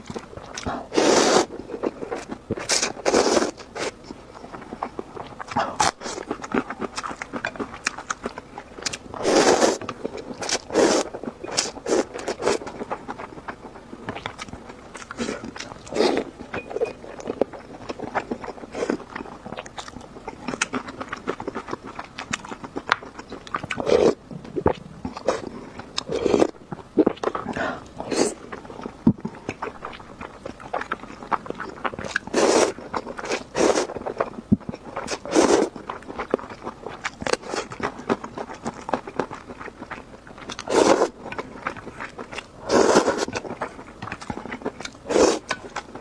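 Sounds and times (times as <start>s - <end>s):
person chewing noodles: 0.0s - 46.0s.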